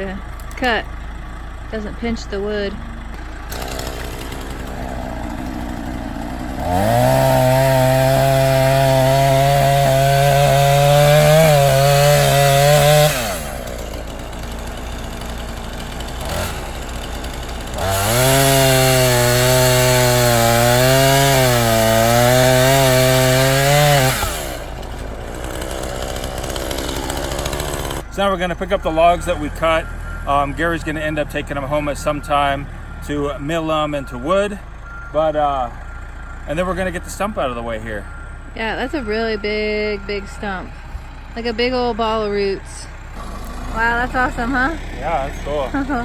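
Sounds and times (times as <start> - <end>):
chainsaw cutting log: 1.8 - 34.1, 38.6 - 46.0.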